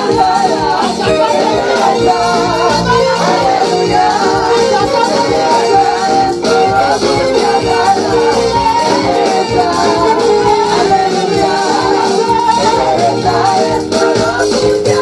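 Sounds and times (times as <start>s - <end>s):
gospel band with singing: 0.0s - 15.0s.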